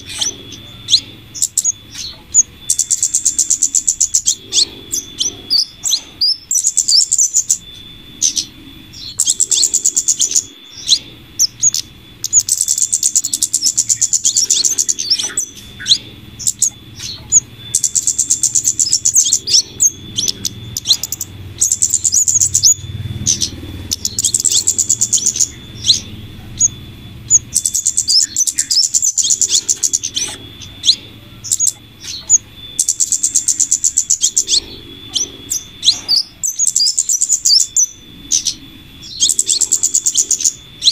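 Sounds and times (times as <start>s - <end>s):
high rapid bird trills: 0.0s - 40.9s
sharp bird chirps: 0.0s - 40.9s.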